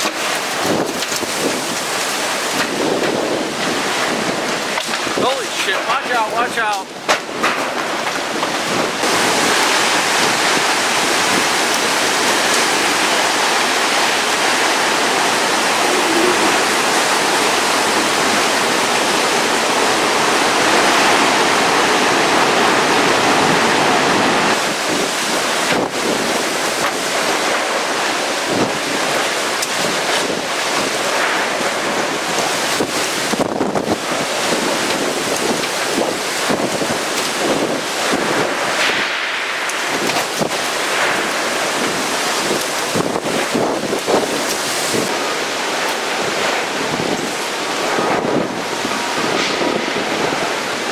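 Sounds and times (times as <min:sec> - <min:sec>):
wind buffeting microphone: 0:00.0 - 0:50.9
wind roaring: 0:00.0 - 0:50.9.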